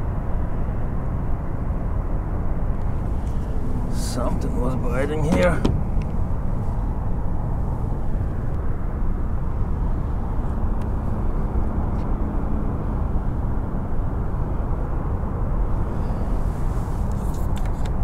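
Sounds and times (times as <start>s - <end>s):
wind buffeting microphone: 2.5s - 18.0s.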